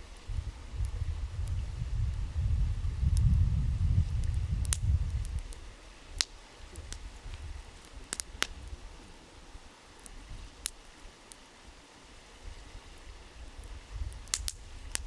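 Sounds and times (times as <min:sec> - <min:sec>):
campfire crackling and popping: 0:00.0 - 0:11.6, 0:12.2 - 0:15.0
faint steady hiss: 0:00.0 - 0:15.0.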